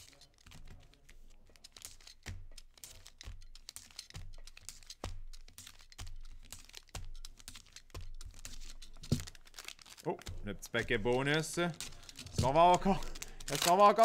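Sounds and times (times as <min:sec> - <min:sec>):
card pack wrappers crinkling: 0:00.0 - 0:14.0.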